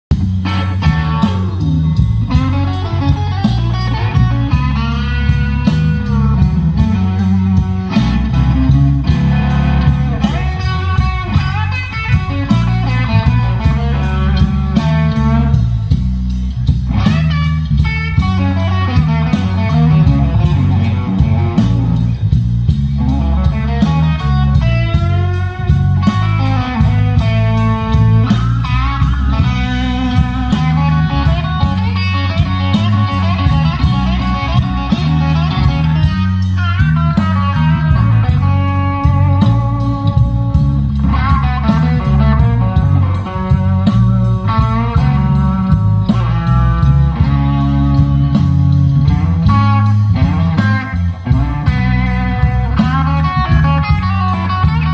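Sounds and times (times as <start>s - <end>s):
blues band playing: 0.1s - 54.9s
electric lead guitar: 0.1s - 54.9s.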